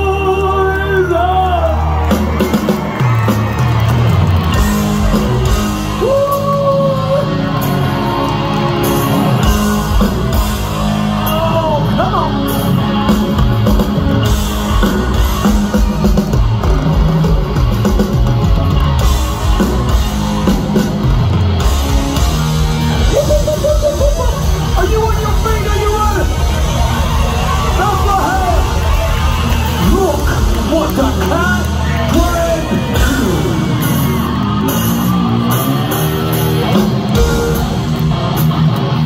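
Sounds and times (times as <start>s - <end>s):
electric guitars: 0.0s - 39.0s
drum and bass beat: 1.9s - 39.0s.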